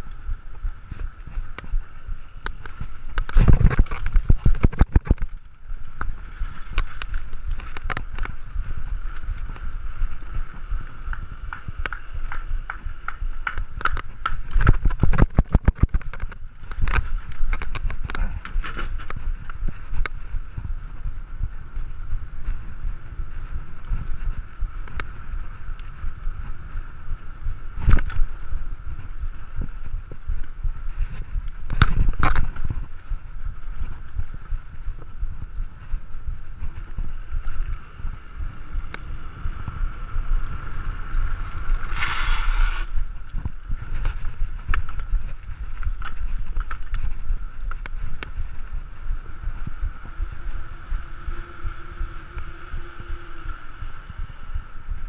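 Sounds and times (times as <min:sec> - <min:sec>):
bike tyre and drivetrain noise: 0:00.0 - 0:55.0
bike rattling over bumps: 0:00.7 - 0:55.0.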